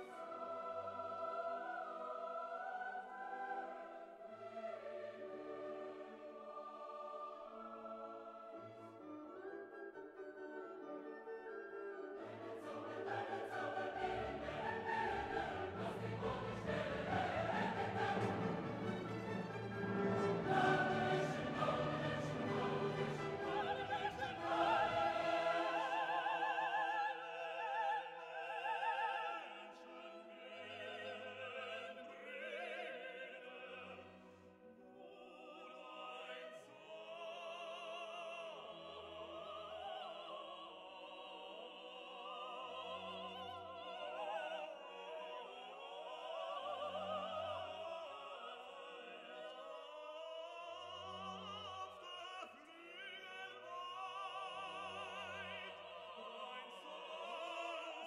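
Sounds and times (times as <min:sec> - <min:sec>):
slow classical music: 0:00.0 - 0:58.0.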